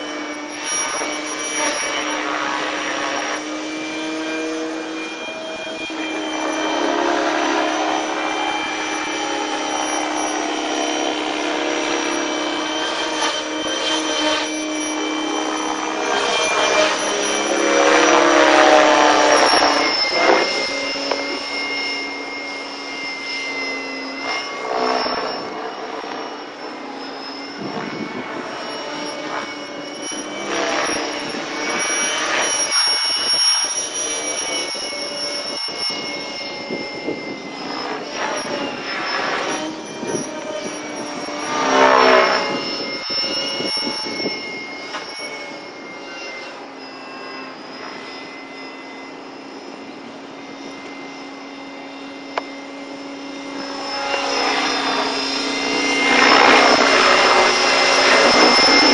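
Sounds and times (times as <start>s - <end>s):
rc helicopter motor and rotor whine: 0.0s - 58.9s.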